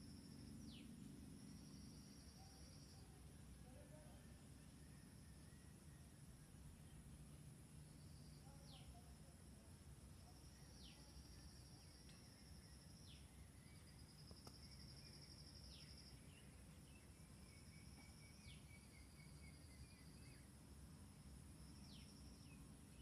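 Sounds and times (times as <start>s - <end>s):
faint background hiss: 0.0s - 23.0s.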